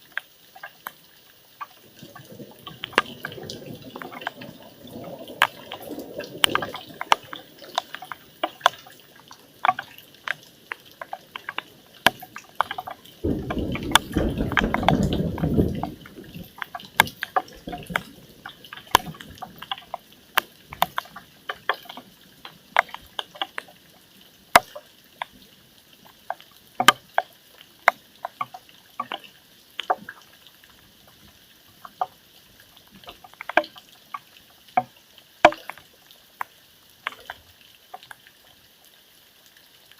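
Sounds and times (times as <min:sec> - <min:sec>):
raindrops on hard surface: 0:00.0 - 0:39.9.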